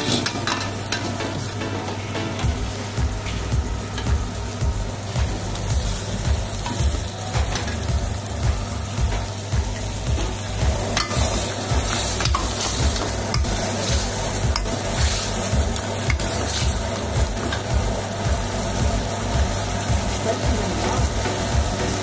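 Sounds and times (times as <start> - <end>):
food sizzling and bubbling: 0.0 - 22.0
low rumble: 2.4 - 15.8, 16.4 - 22.0.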